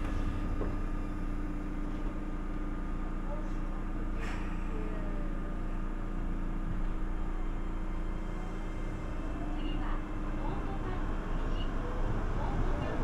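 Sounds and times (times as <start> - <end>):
train car rumble: 0.0 - 13.0.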